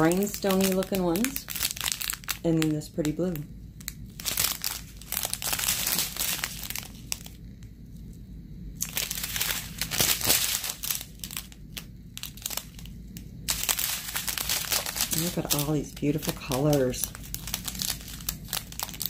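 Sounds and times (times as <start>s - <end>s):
plastic bags crinkling: 0.0s - 7.4s, 8.8s - 19.0s.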